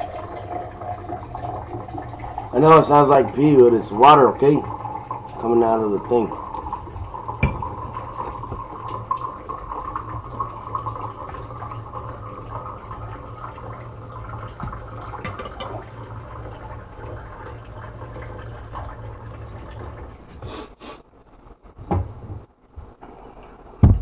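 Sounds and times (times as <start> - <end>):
stream of running water: 0.0 - 20.4.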